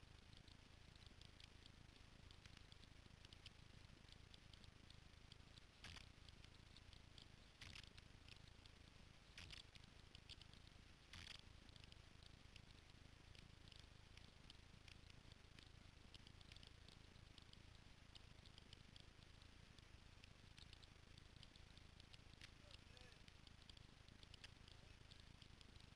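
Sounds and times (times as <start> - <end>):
faint crackling: 0.0 - 25.9.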